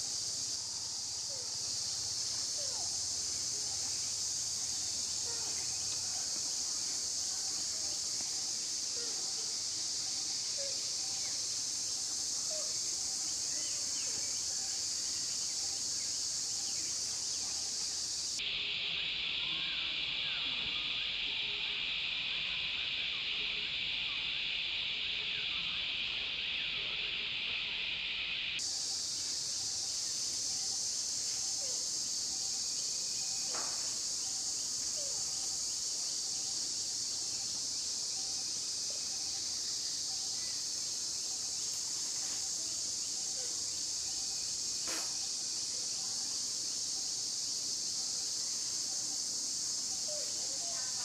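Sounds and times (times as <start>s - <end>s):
cicada drone: 0.0s - 51.0s.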